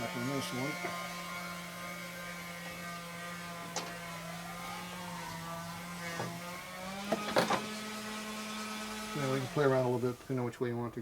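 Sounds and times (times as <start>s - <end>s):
small motor humming: 0.0s - 10.2s.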